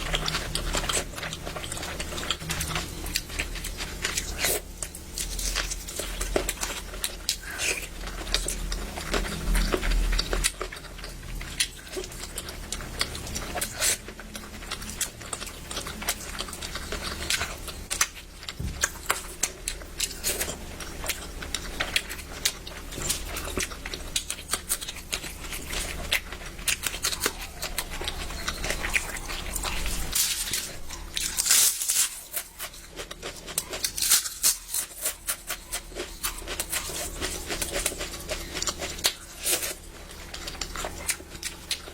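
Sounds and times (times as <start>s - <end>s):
person chewing and lip smacking: 0.0s - 41.9s.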